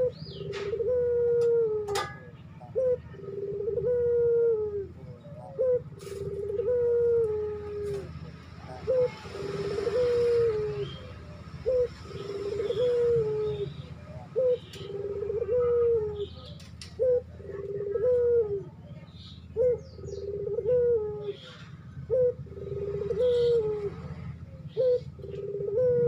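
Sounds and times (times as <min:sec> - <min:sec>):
dove cooing: 0:00.0 - 0:26.0
steady low hum: 0:00.0 - 0:26.0.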